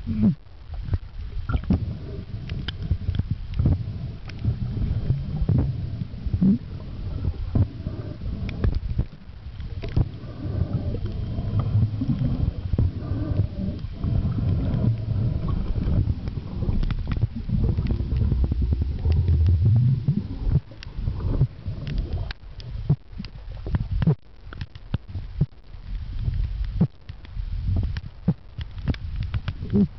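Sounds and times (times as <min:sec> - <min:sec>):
muffled underwater rumble: 0:00.0 - 0:29.9.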